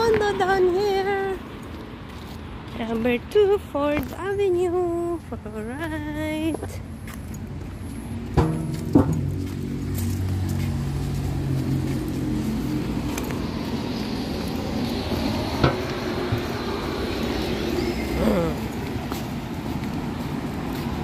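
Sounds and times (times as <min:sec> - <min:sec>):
passing car engine and tyres: 0:00.0 - 0:21.0.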